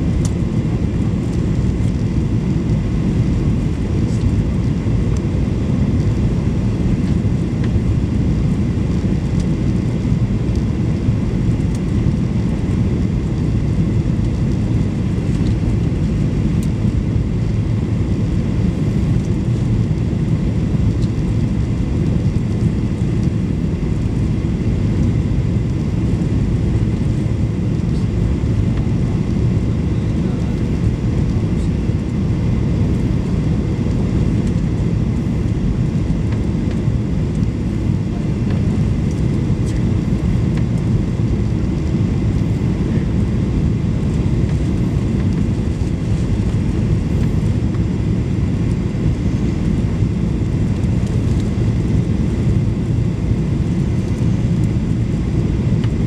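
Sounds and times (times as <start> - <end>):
aircraft cabin engine rumble: 0.0 - 56.0.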